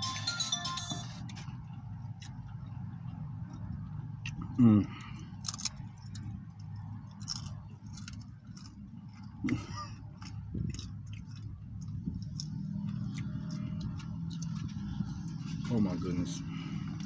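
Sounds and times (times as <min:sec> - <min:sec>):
chewing and mouth sounds: 0:01.3 - 0:15.7.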